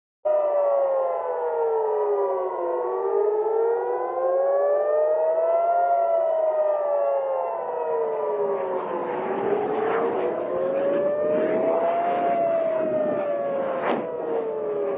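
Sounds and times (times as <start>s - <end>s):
air raid sirens wailing: 0.3s - 14.9s.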